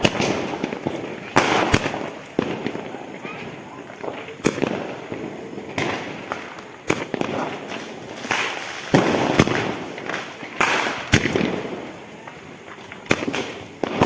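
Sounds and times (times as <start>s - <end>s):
firecracker crackling: 0.0s - 14.0s
firecrackers banging: 0.0s - 14.0s.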